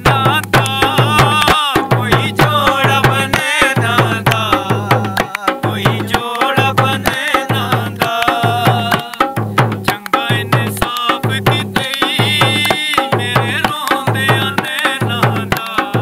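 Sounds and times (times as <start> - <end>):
hand drum rhythm: 0.0 - 16.0
man singing: 0.0 - 16.0.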